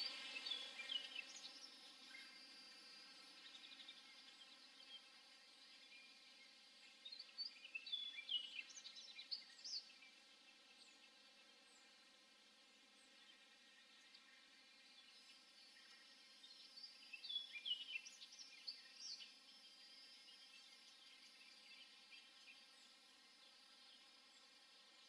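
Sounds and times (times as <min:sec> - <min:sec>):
low background hiss: 0:00.0 - 0:25.0.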